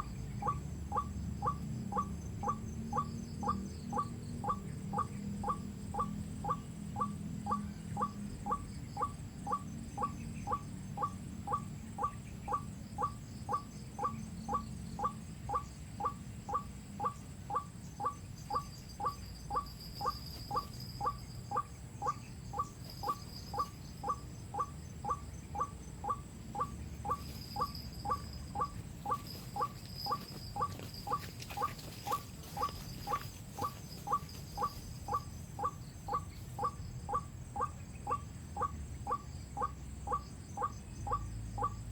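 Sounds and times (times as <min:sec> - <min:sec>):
faint higher-pitched bird calls: 0:00.0 - 0:41.8.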